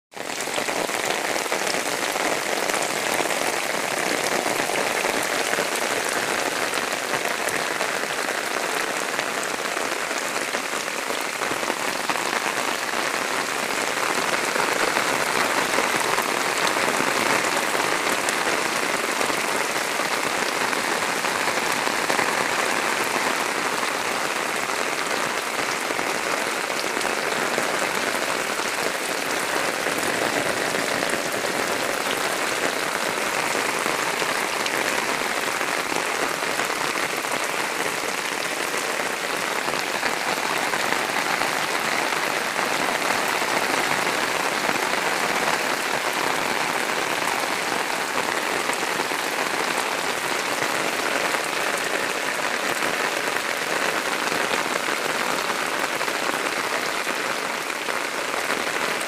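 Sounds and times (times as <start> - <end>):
rain splashing on ground: 0.1 - 59.0.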